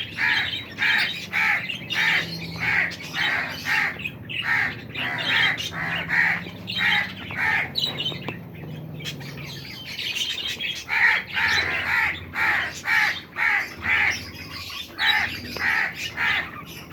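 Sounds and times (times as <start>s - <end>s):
parrots squawking: 0.0s - 16.9s.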